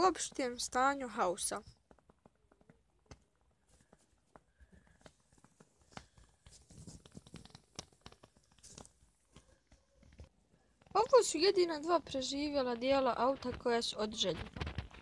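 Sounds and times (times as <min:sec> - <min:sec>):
small fire crackling: 0:00.0 - 0:15.0.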